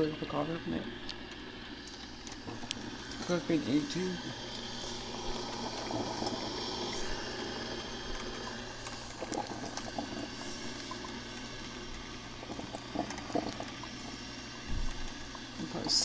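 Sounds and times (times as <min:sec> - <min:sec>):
coffee maker hissing: 0:00.0 - 0:16.0
faint gurgles: 0:00.0 - 0:16.0.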